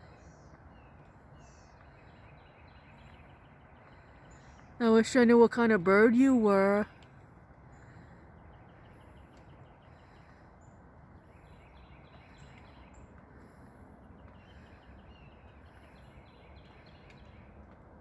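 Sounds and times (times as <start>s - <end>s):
small birds chirping and whistling: 0.0s - 4.8s, 7.7s - 17.6s
low steady background noise: 0.0s - 18.0s.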